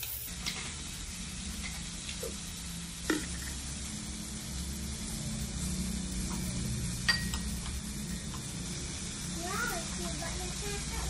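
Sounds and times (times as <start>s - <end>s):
food sizzling on grill pan: 0.0s - 11.0s.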